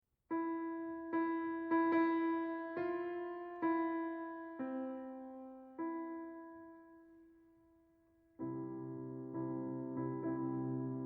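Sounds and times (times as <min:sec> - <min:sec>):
slow keyboard melody: 0:00.3 - 0:07.6, 0:08.3 - 0:11.0.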